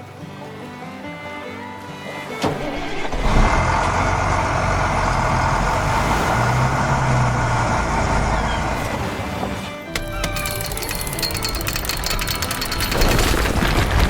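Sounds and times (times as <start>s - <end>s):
heavy vehicle engine running: 2.6s - 14.0s.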